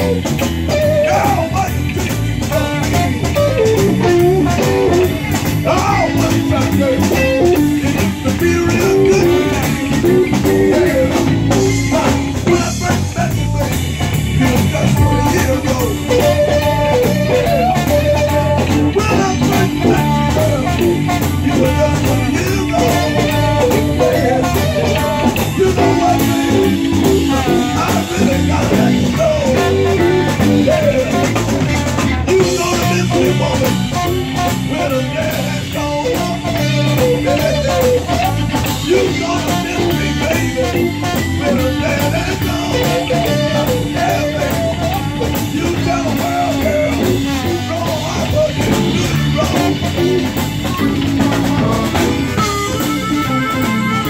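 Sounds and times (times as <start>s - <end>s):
blues harmonica: 0.0s - 54.0s
drum kit: 0.0s - 54.0s
electric bass: 0.0s - 54.0s
electric guitar: 0.0s - 54.0s.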